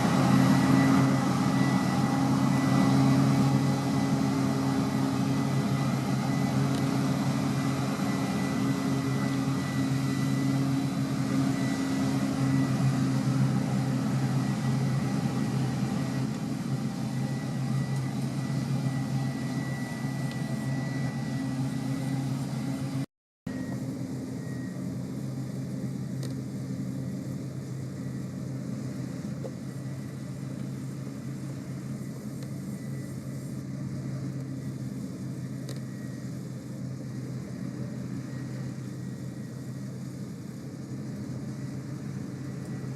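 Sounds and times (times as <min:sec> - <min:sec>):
diesel engine running under load: 0:00.0 - 0:42.9
faint high whine: 0:00.0 - 0:42.9.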